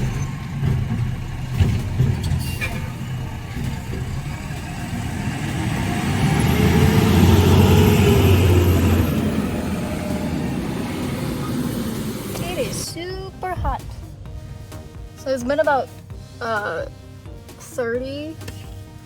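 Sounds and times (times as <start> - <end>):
garbage truck engine rumbling: 0.0 - 19.0.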